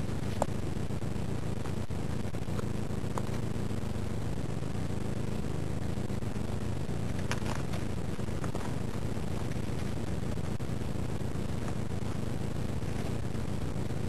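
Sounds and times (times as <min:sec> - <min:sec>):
microphone rumble and hiss: 0:00.0 - 0:14.0.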